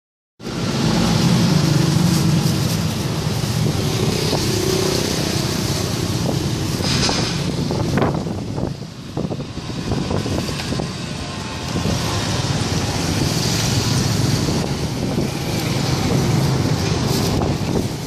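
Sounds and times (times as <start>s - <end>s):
loud vehicle passing: 0.4s - 18.0s
traffic rumble: 0.4s - 18.0s.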